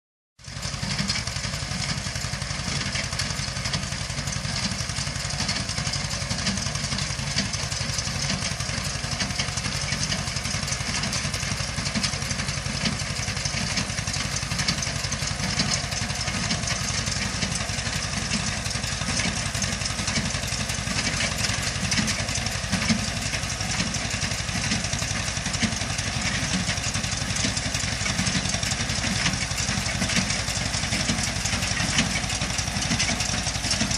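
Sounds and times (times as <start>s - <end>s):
tractor engine running: 0.4s - 33.9s
machinery rattle: 0.5s - 33.9s.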